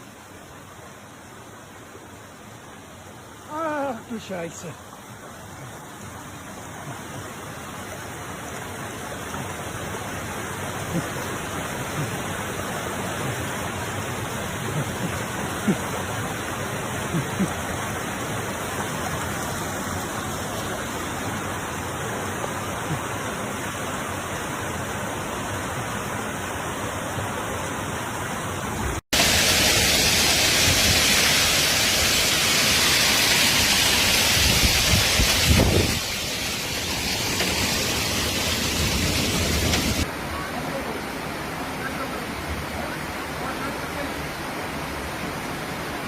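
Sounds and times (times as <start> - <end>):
rushing storm water: 0.0 - 46.0.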